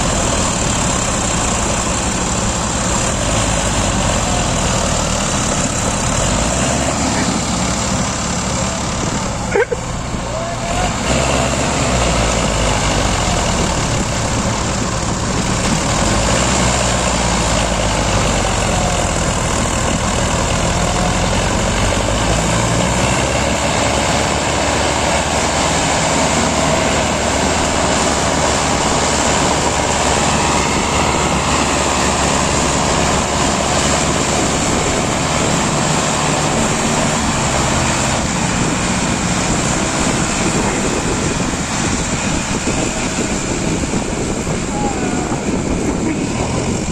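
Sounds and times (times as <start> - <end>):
diesel engines straining: 0.0 - 46.9.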